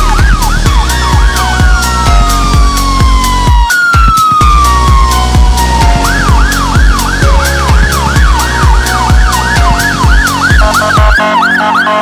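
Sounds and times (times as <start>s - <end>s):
music with drum beat and bass: 0.0s - 11.5s
fire engine siren yelping: 0.0s - 12.0s
second siren: 0.0s - 12.0s.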